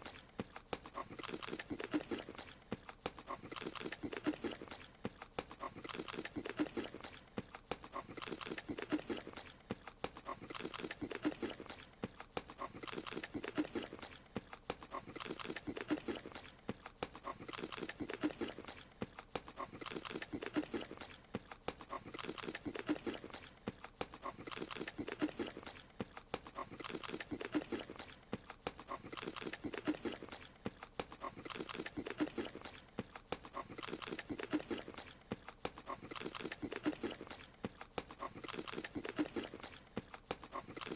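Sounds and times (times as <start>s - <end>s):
cartoon chomping sound effect: 0.0s - 40.9s.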